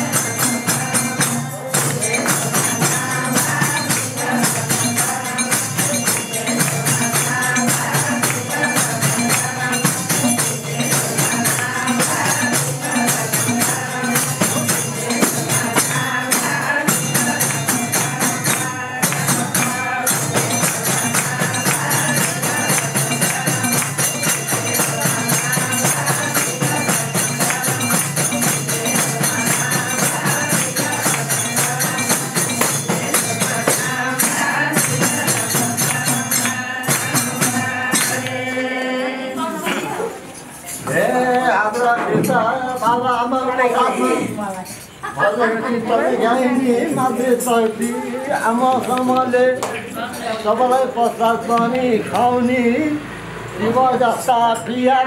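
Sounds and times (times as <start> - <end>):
jingling hand percussion: 0.0 - 55.0.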